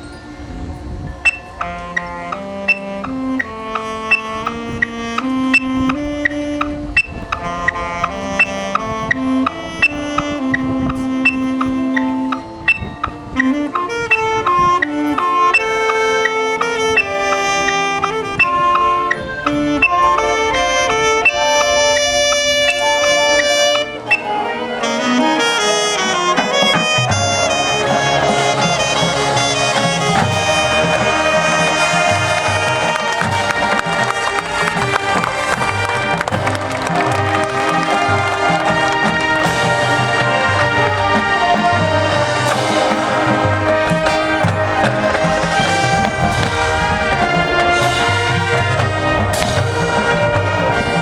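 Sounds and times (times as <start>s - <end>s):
low brass notes: 0.0s - 51.0s
marching band playing: 1.3s - 51.0s
sharp percussion hits: 1.3s - 51.0s.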